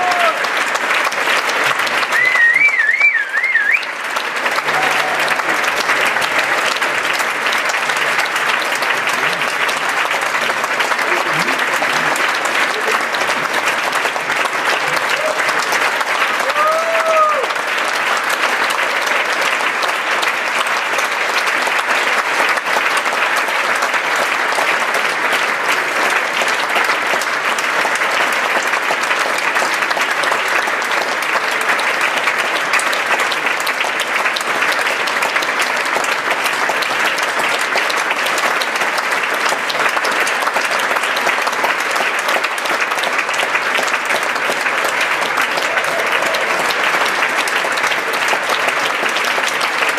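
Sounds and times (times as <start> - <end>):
audience applauding: 0.0 - 49.9.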